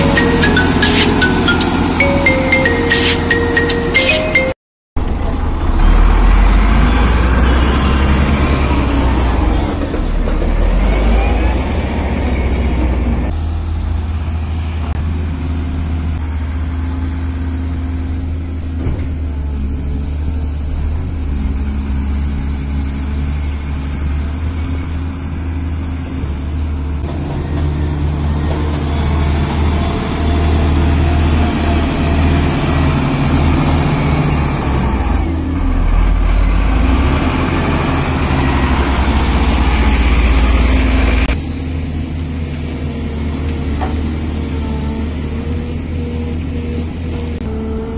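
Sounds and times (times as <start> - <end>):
excavator diesel engine working: 0.0 - 47.9.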